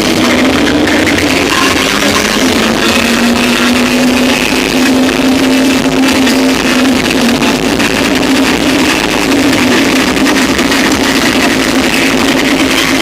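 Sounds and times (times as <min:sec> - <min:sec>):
loud distorted music: 0:00.0 - 0:13.0
steady low drone: 0:00.0 - 0:13.0.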